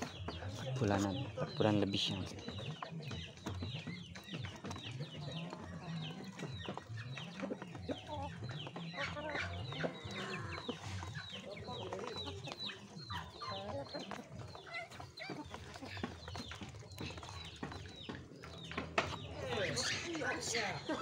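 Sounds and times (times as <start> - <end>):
duck bills tapping on feed: 0.0 - 21.0
ducklings peeping: 0.0 - 21.0.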